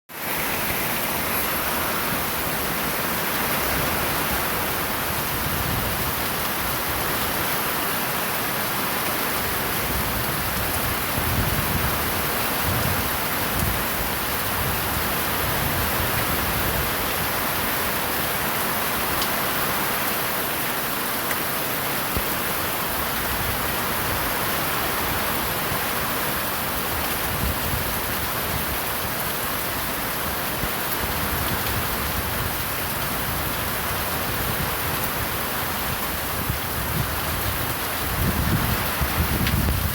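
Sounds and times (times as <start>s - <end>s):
heavy rain: 0.1s - 39.9s.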